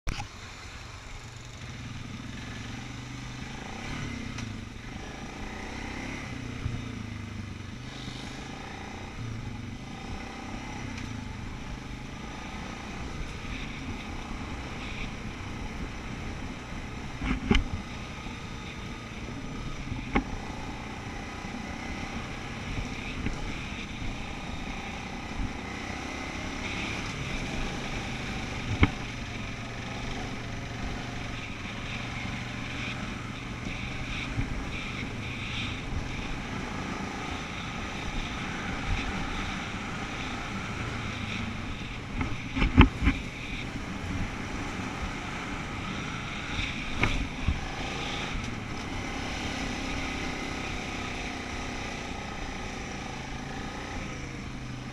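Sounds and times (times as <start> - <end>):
atv engine running: 0.1 - 54.9.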